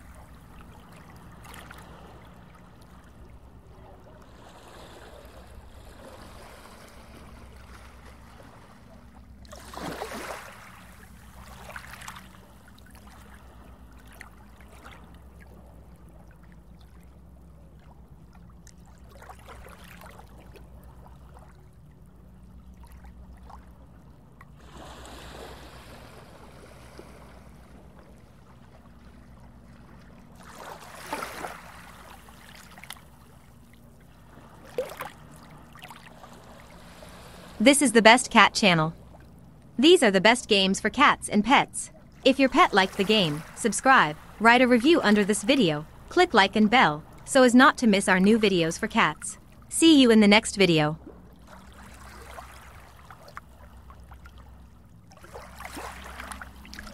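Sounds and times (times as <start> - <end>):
swishes of moving water: 0.0 - 37.6, 41.9 - 44.4, 51.0 - 56.9.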